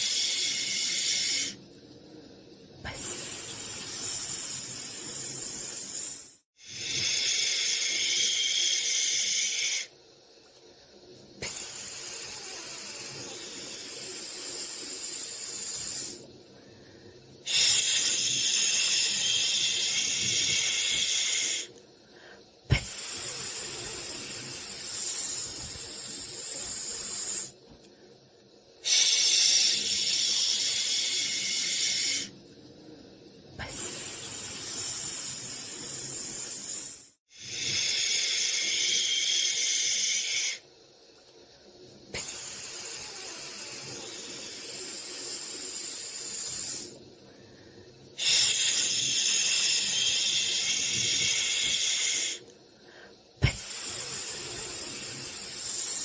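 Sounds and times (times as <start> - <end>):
high airy white-noise hiss: 0.0 - 56.0.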